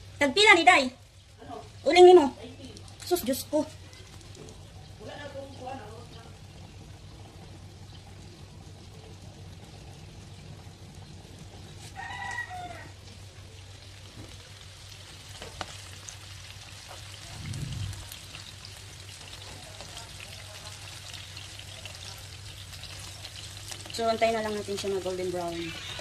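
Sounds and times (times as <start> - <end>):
chicken frying in oil: 0.0 - 26.0.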